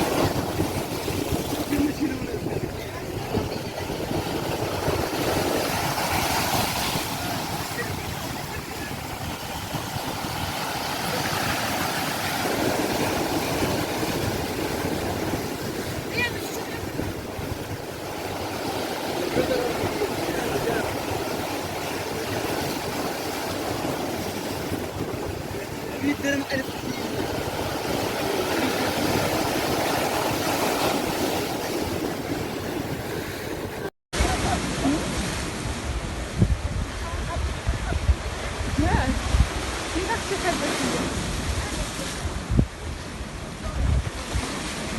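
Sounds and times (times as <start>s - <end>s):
sea waves breaking on shore: 0.0s - 44.9s.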